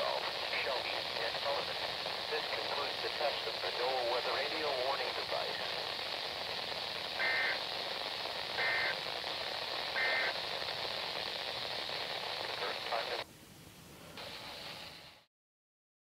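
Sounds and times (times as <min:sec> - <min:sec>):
two-tone data bursts: 0:00.0 - 0:13.2
hissy radio broadcast: 0:00.0 - 0:15.3.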